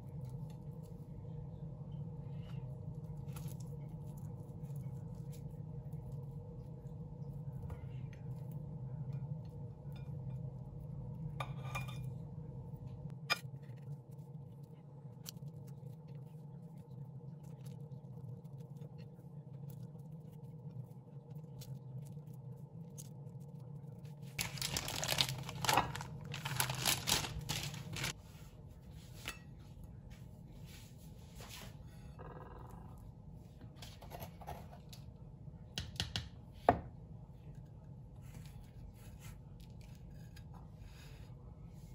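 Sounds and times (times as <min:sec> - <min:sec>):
low hum: 0:00.0 - 0:35.8.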